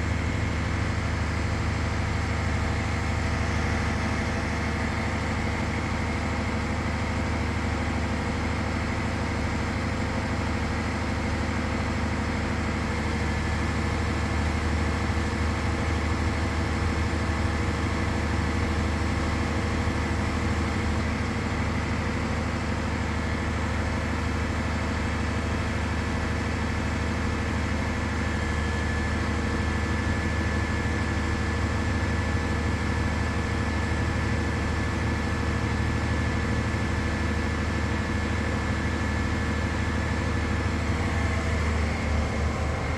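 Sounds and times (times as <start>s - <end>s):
crane truck engine running: 0.0s - 42.9s.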